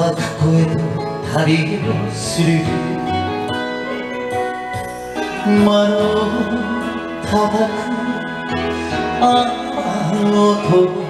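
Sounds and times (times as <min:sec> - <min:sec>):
man singing into microphone: 0:00.0 - 0:03.6, 0:05.2 - 0:11.0
karaoke backing track: 0:00.0 - 0:11.0.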